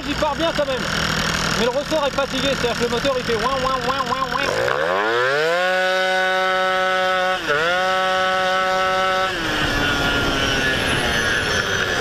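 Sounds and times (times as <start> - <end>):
moped engine revving: 0.0 - 12.0
road and wind noise: 0.0 - 12.0.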